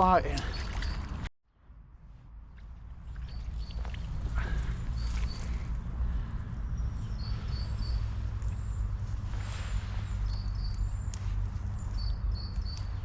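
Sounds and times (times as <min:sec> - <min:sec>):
small birds chirping: 0:00.1 - 0:01.2, 0:03.0 - 0:13.0
steady low rumble: 0:01.1 - 0:13.0.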